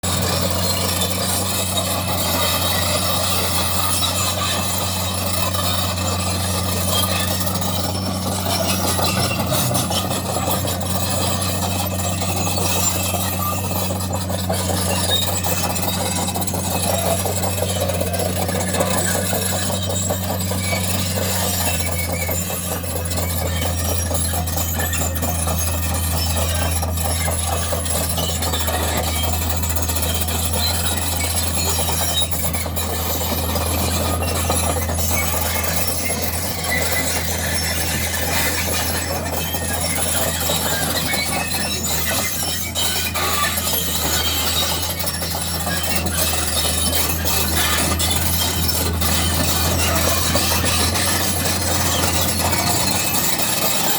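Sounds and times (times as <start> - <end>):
diesel engine humming: 0.0 - 53.9
track chains squealing and clattering: 0.0 - 53.9.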